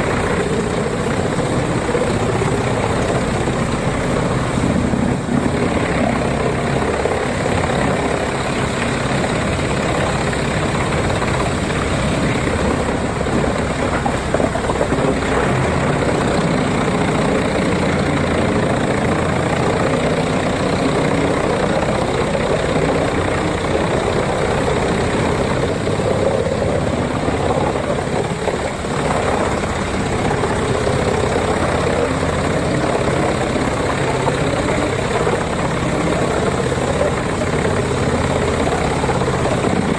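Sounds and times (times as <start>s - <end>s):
wood chipper engine chipping wood: 0.0s - 39.9s.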